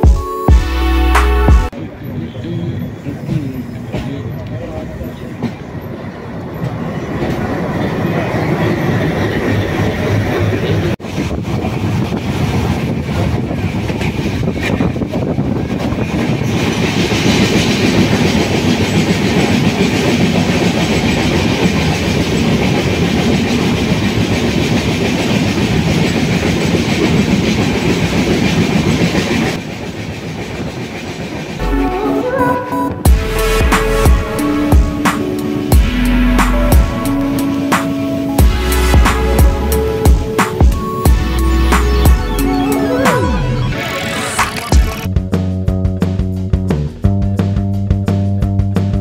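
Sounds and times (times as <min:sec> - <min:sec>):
train coach rumbling and rattling: 0:00.7 - 0:49.0.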